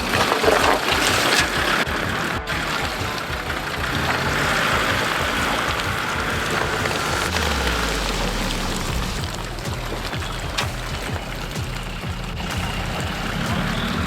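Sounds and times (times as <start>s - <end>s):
off-road vehicle engine under load: 0.0s - 14.0s.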